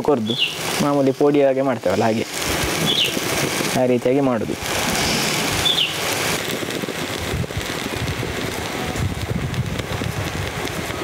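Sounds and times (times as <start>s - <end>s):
spices sizzling in pot: 0.0s - 11.0s.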